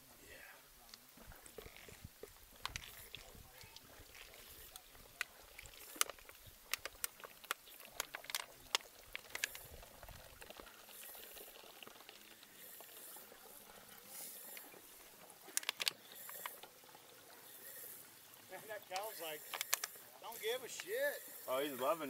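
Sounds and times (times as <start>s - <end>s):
cow slurping water: 0.0s - 22.0s
faint steady hiss: 0.0s - 22.0s.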